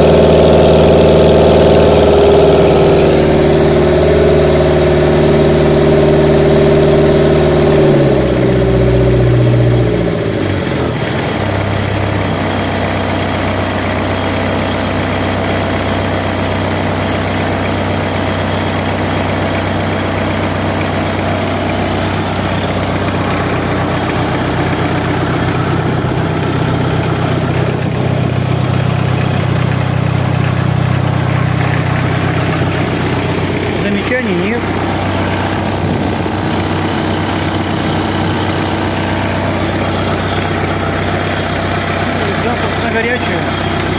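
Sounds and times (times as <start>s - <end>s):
diesel engine revving down and idling: 0.0s - 43.9s.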